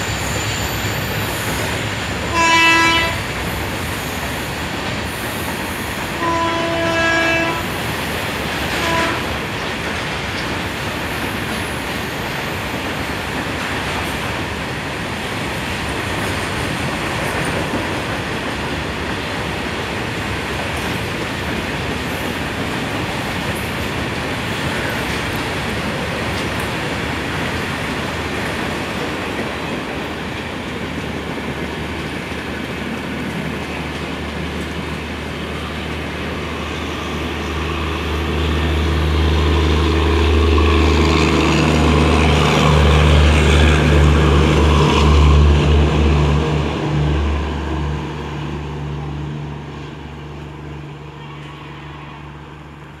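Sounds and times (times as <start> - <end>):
train wheels rushing on rail: 0.0 - 53.0.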